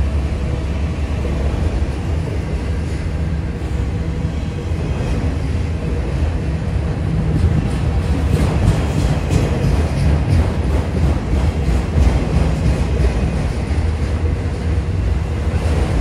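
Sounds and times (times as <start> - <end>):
freight cars rumbling on track: 0.0 - 16.0.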